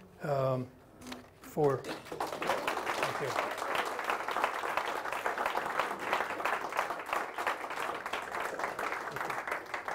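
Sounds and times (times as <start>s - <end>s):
audience applauding: 1.9s - 9.9s.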